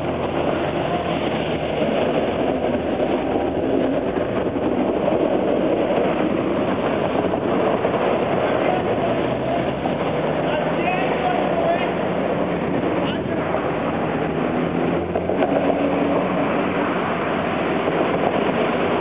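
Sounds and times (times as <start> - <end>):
cars driving on wet road: 0.0 - 19.0
streetcar wheels rumbling on rails: 0.0 - 19.0.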